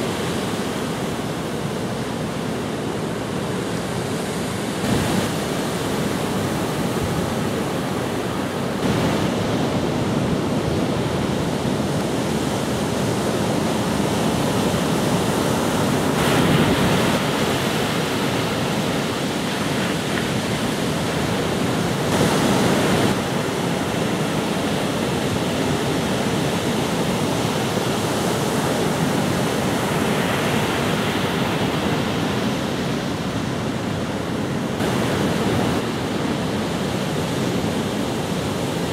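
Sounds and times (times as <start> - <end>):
waves breaking and washing in: 0.0 - 38.9.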